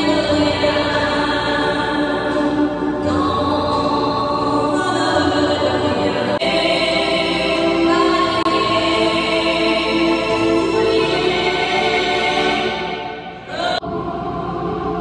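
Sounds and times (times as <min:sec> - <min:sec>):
slow choir-like chords: 0:00.0 - 0:15.0.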